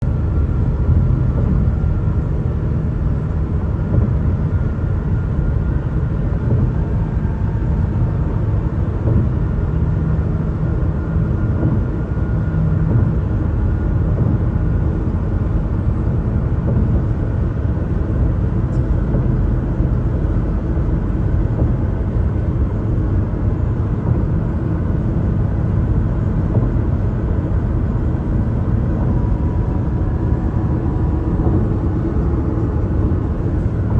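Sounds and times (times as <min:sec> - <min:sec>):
car tyres road rumble: 0:00.0 - 0:33.9
faint whine: 0:00.0 - 0:33.9.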